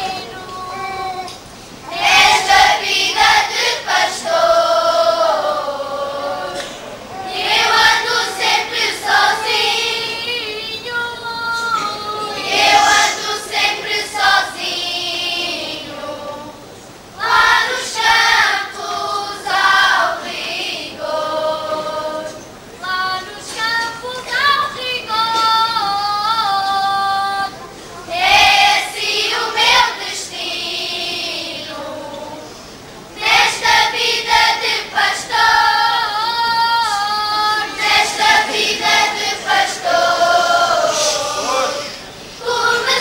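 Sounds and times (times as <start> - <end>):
children's choir singing unaccompanied: 0.0 - 43.0.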